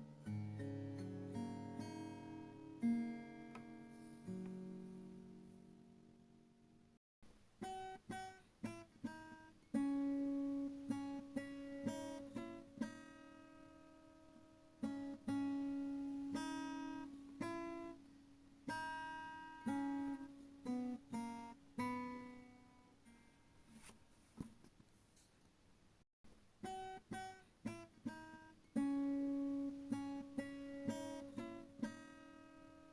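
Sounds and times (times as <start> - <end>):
acoustic guitar picking melody: 0.0 - 6.6, 7.6 - 24.0, 26.6 - 32.9.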